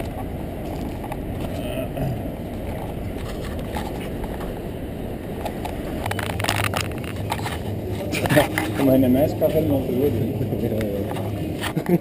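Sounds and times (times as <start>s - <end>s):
low steady hum: 0.0s - 12.0s
wind buffeting microphone: 0.0s - 12.0s.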